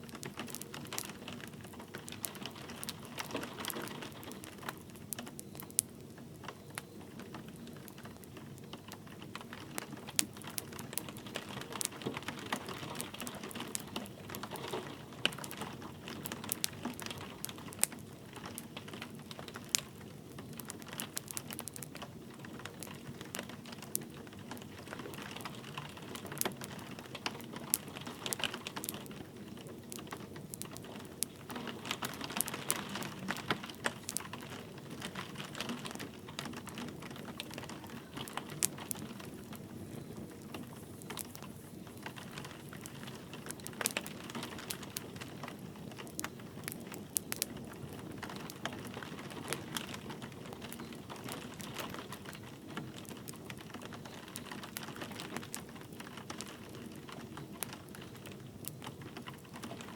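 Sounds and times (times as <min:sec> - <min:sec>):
light rain pattering: 0:00.0 - 0:59.9
wood fire crackling and popping: 0:00.0 - 0:59.9.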